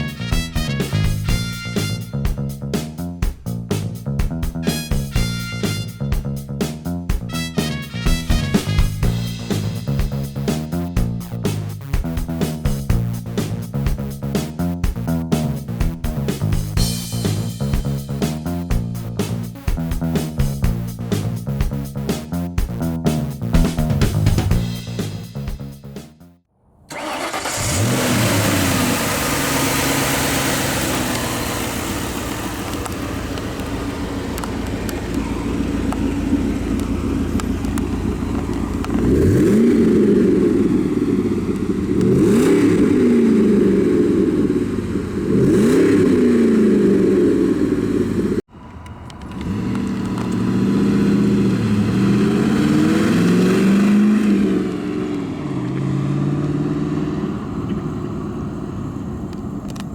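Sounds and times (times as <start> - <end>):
car engine idling: 0.0 - 25.8, 26.9 - 59.9
car engine revving: 0.0 - 26.0, 26.9 - 59.9.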